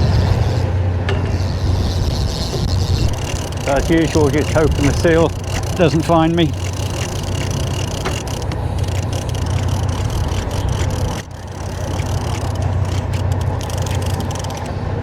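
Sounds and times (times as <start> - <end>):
wind buffeting microphone: 0.0 - 15.0
faint ticking: 1.1 - 14.8.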